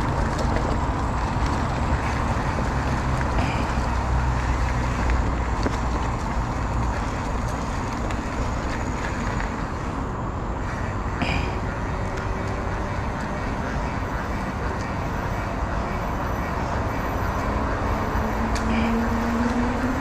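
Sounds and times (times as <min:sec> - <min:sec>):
motorcycle engine: 0:00.0 - 0:20.0
road noise: 0:00.0 - 0:20.0.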